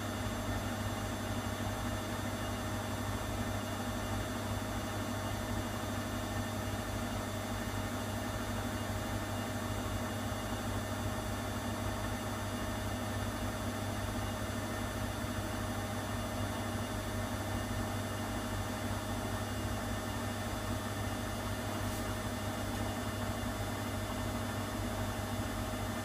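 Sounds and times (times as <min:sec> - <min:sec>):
washing machine spinning: 0:00.0 - 0:26.0.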